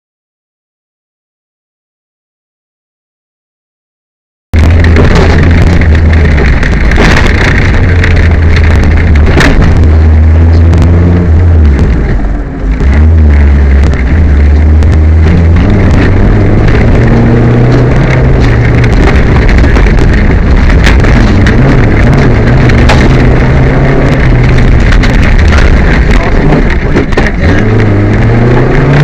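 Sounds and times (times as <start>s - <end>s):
loud road noise: 4.6s - 29.0s
rally car engine revving: 4.6s - 29.0s.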